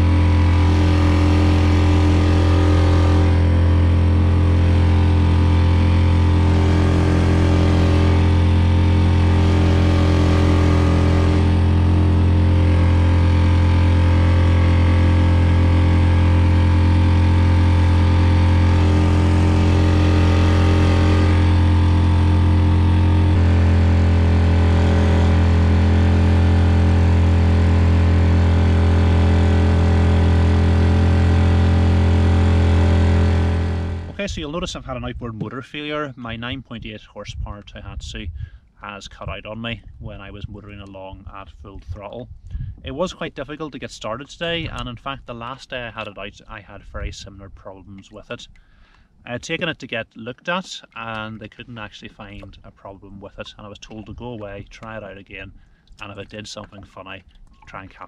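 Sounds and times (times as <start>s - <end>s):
outboard motor running: 0.0s - 36.9s, 37.8s - 58.0s.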